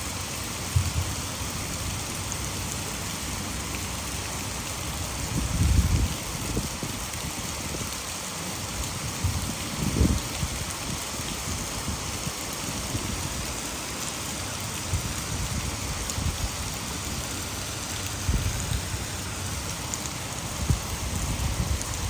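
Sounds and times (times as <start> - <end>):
heavy rain hissing: 0.0 - 22.0
water falling over dam: 0.0 - 22.0.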